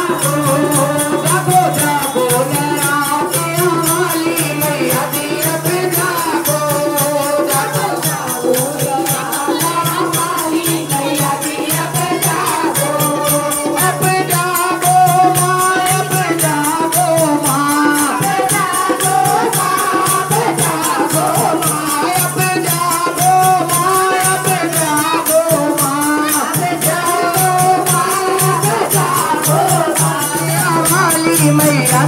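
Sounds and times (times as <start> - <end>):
group singing devotional song: 0.0 - 32.0
rattling percussion: 0.0 - 32.0.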